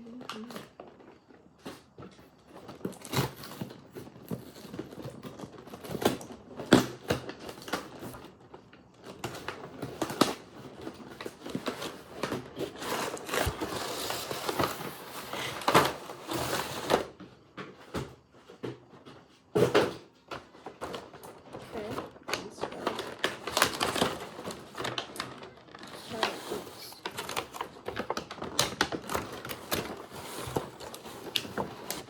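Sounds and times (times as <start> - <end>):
packaging crinkling and rustling: 0.0 - 17.3, 18.6 - 32.0
packaging clicks and knocks: 0.3 - 32.0.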